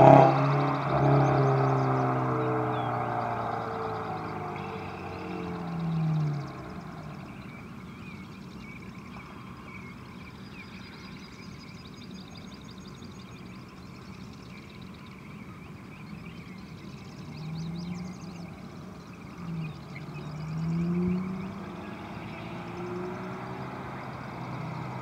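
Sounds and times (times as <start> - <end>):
birds chirping: 0.0 - 25.0
car engine approaching: 0.0 - 25.0.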